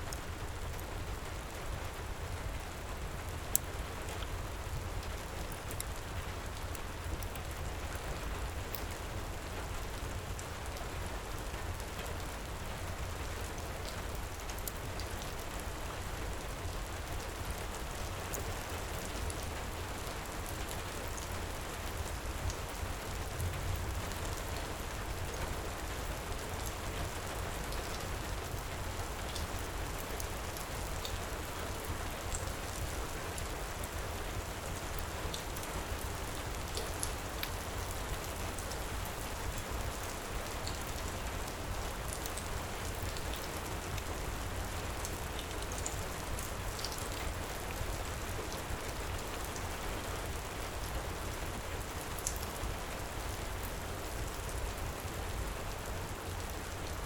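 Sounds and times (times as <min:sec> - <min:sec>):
wood fire crackling faintly: 0:00.0 - 0:57.0.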